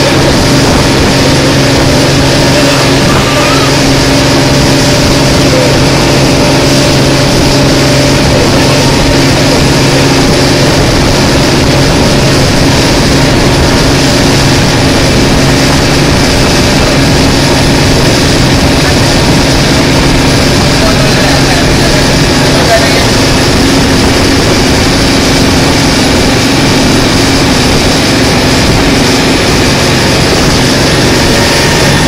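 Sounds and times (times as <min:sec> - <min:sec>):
boat motor running: 0:00.0 - 0:32.0
rush of wind and water: 0:00.0 - 0:32.0.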